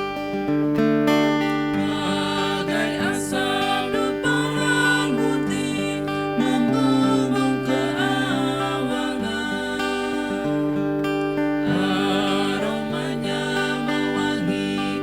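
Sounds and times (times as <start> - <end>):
acoustic guitar strumming: 0.0 - 15.0
people singing a hymn: 1.7 - 15.0.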